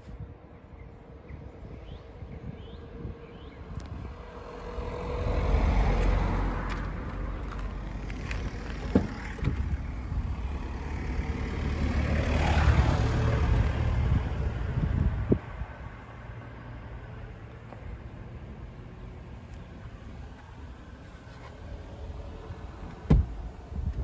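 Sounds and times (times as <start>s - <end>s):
vehicles driving past: 2.8s - 24.0s.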